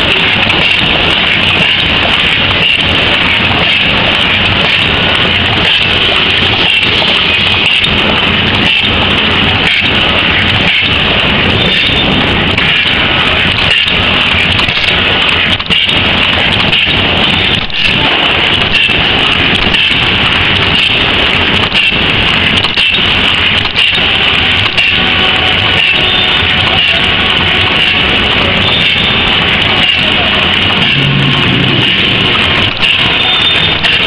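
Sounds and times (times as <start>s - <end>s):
machines clattering: 0.0s - 34.0s.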